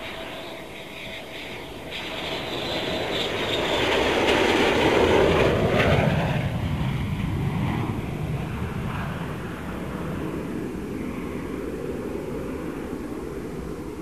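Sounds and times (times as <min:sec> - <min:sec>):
jet engine roar overhead: 0:00.0 - 0:14.0.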